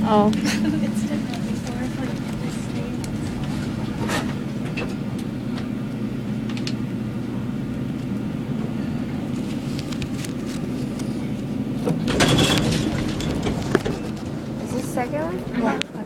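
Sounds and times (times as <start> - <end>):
elevator humming in motion: 0.0 - 16.0.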